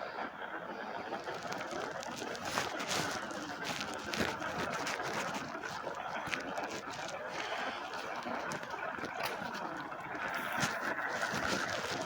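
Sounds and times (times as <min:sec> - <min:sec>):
hissing and crackling space recording: 0:00.0 - 0:12.0.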